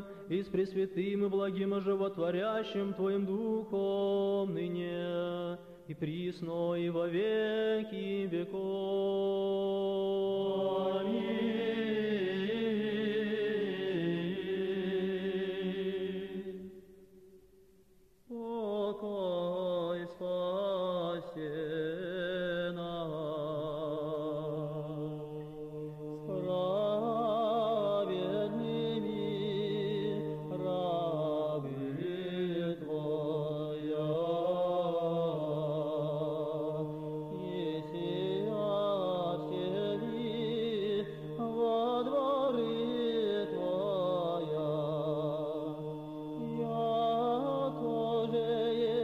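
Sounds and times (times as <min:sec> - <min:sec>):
male choir singing: 0:06.9 - 0:16.7, 0:18.4 - 0:49.0.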